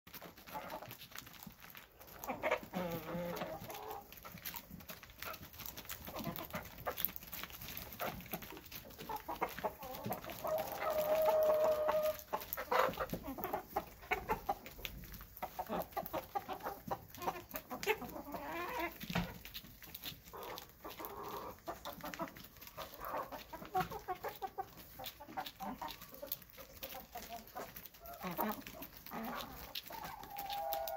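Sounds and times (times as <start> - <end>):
hens clucking: 0.1 - 30.9.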